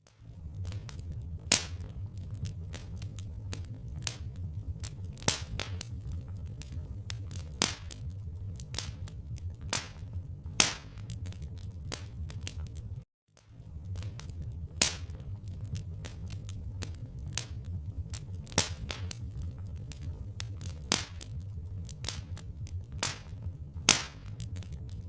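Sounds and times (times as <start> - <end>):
loud pops of fire: 0.0 - 25.0
low rumble: 0.0 - 25.0
wood fire crackling: 0.0 - 25.0.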